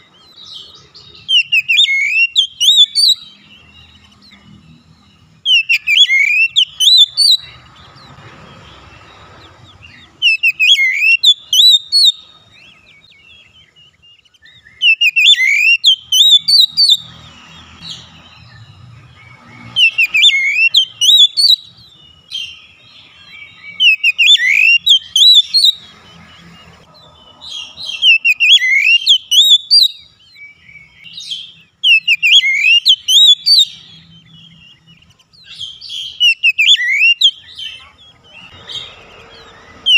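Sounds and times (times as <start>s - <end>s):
bird singing whistled phrases: 0.0s - 4.8s, 5.4s - 7.6s, 9.8s - 25.9s, 27.6s - 39.9s.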